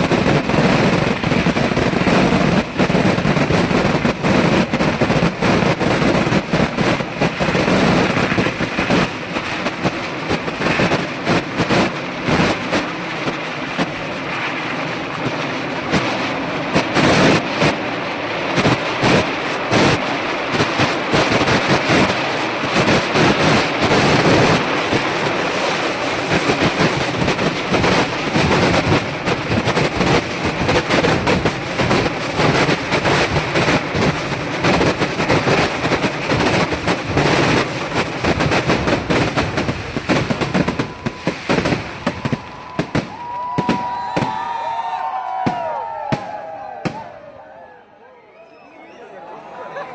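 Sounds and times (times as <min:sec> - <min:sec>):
fireworks crackling barrage: 0:00.0 - 0:49.9.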